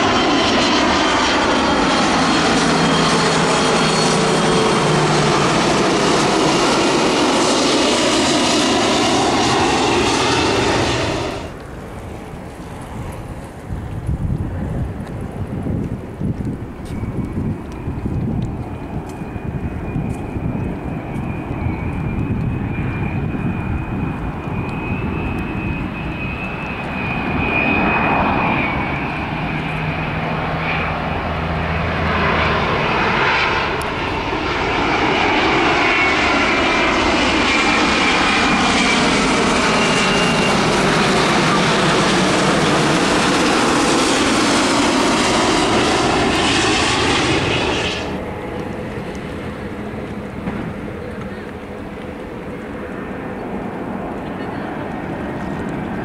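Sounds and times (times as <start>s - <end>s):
distant jet sound: 0.0s - 13.0s, 17.0s - 54.2s
jet engine whine: 0.0s - 56.0s
jet roar overhead: 0.0s - 56.0s.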